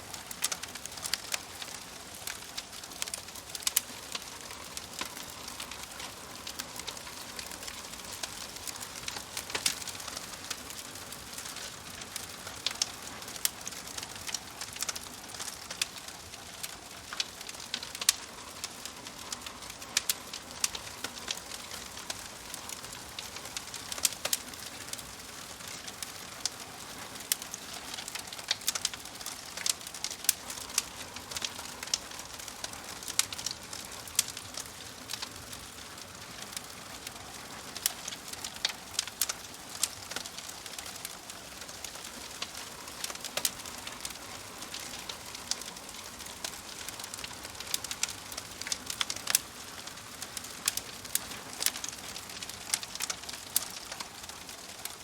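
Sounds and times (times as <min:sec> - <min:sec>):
fire popping: 0:00.0 - 0:55.0
soft fire hiss: 0:00.0 - 0:55.0
wood fire crackling: 0:00.0 - 0:55.0.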